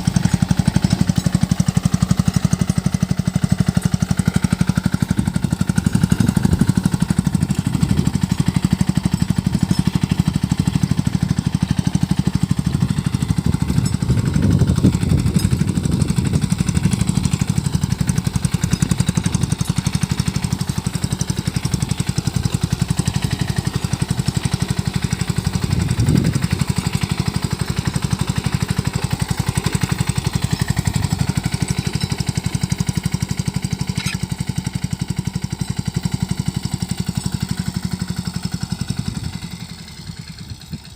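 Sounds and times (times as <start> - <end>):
small tractor engine running: 0.0 - 40.9.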